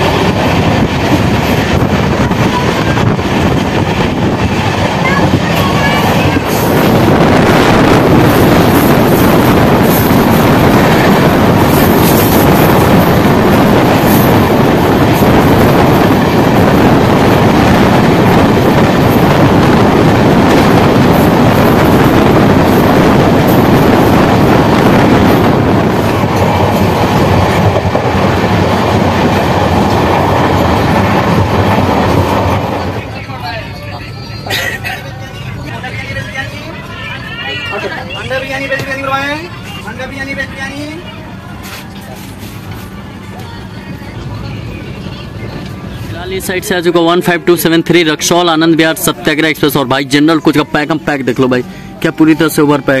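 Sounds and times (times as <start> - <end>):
trains passing at speed: 0.0 - 53.0.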